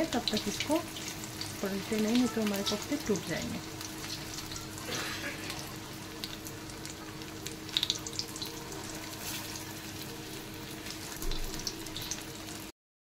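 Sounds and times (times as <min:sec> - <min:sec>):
deep-frying sizzle: 0:00.0 - 0:12.7.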